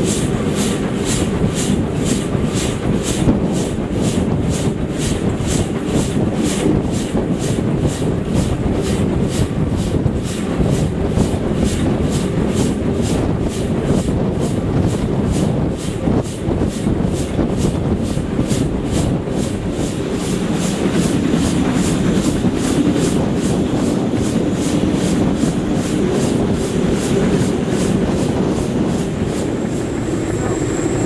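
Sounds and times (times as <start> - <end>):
steam locomotive chuffing: 0.0 - 31.0
wheels rumbling on rails: 0.0 - 31.0.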